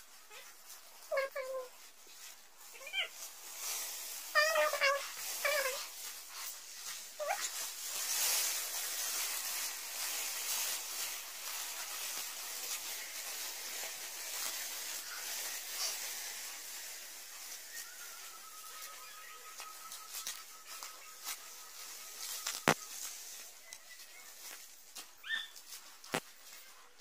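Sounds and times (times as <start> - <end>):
footsteps through dry leaves: 0.0 - 27.0.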